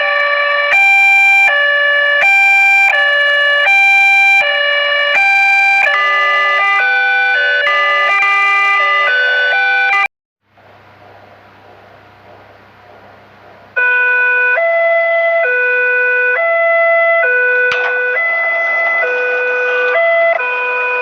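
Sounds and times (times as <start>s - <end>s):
two-tone siren: 0.0s - 10.1s, 13.8s - 21.0s.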